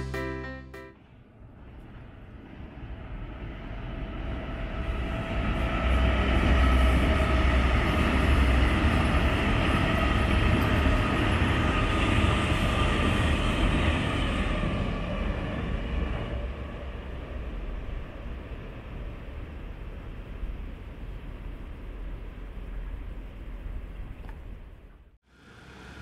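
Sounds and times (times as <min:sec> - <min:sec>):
train passing on rails: 0:00.0 - 0:24.1, 0:25.3 - 0:26.0.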